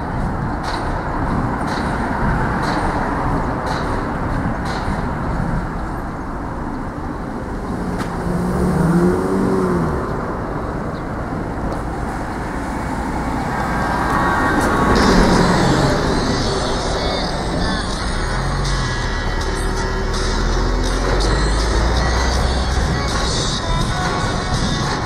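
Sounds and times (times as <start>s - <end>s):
road traffic noise: 0.0s - 25.0s
vehicle passing close: 0.0s - 25.0s.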